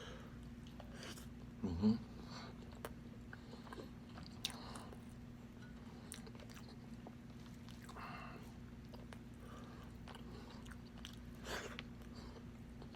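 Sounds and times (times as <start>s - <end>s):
steady low hum: 0.0s - 12.9s
chewing and mouth clicks: 0.6s - 1.5s, 2.6s - 8.0s, 8.8s - 12.9s.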